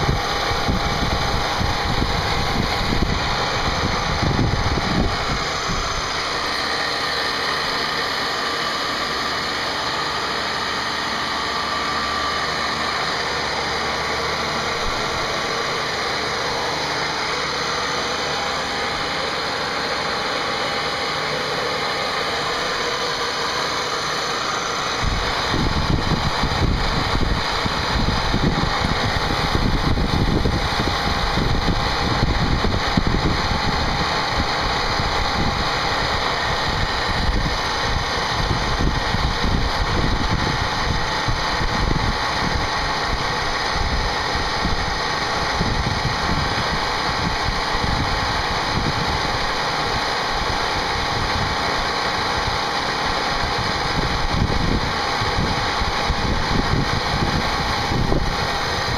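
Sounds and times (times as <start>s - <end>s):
faint steady whine: 0.0s - 58.9s
machine whirring: 0.0s - 58.9s.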